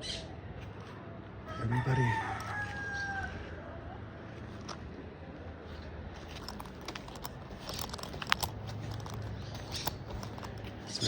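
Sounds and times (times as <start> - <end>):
footsteps on hiking trail: 0.6 - 3.6, 4.3 - 11.0.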